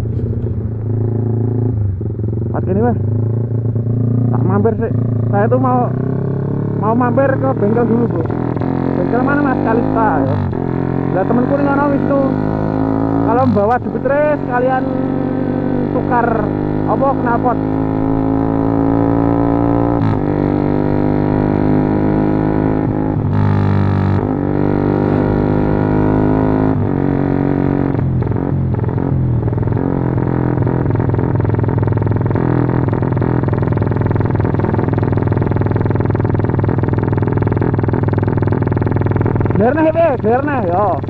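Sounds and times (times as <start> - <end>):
motorcycle exhaust droning: 0.0 - 41.0.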